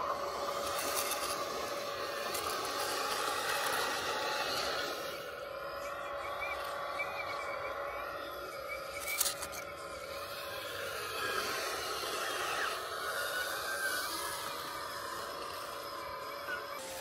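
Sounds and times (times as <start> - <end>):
model excavator hydraulics whining: 0.0 - 17.0.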